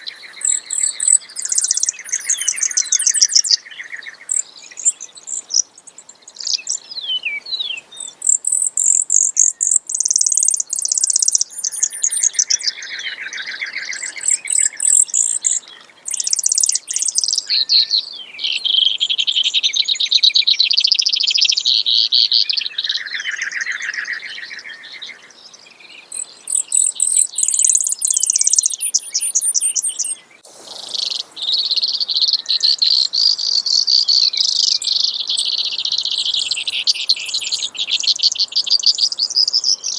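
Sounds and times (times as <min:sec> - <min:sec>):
sparrow singing trills: 0:00.0 - 0:39.9.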